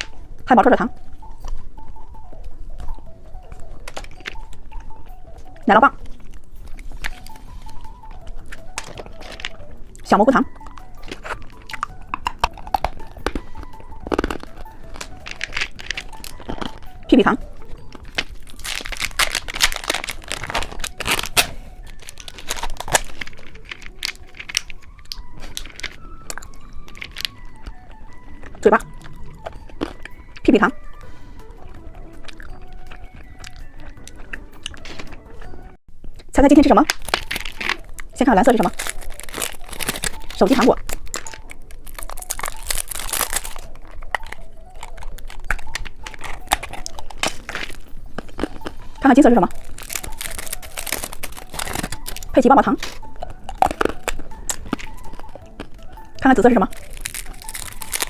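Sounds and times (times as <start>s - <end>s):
plastic candy wrappers crinkling: 0.0s - 58.0s.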